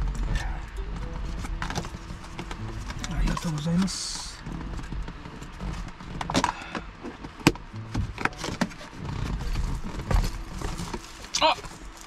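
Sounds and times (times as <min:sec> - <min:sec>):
fabric bag rustling: 0:00.0 - 0:12.0.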